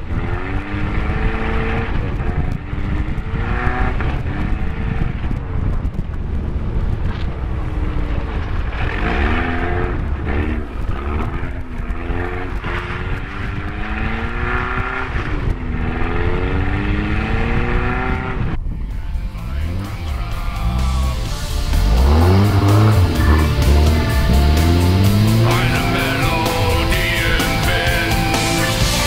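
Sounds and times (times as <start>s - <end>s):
car engine revving: 0.0s - 29.0s
wind and tyres rumbling: 0.0s - 29.0s.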